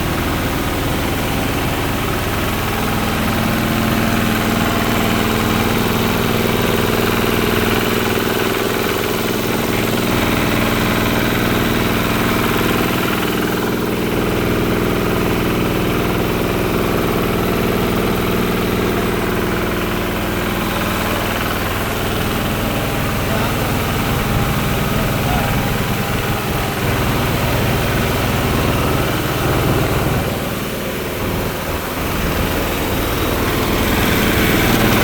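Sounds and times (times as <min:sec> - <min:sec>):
rice milling machine droning: 0:00.0 - 0:35.0.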